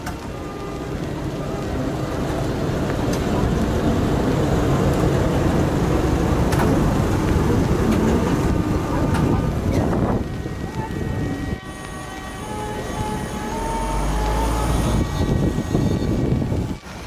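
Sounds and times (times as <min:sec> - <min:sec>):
tram wheels rumbling on rails: 0:00.0 - 0:17.0.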